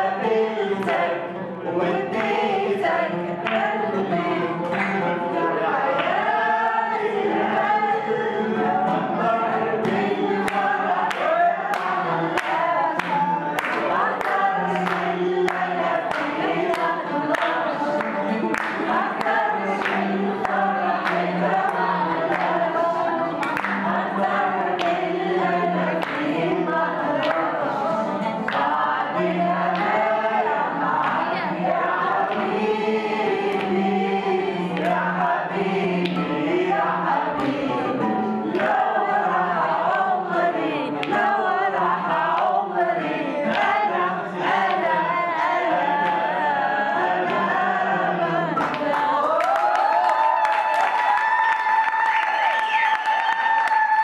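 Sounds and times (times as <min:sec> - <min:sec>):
group singing in chorus: 0:00.0 - 0:54.0
rhythmic hand-clapping: 0:00.0 - 0:54.0.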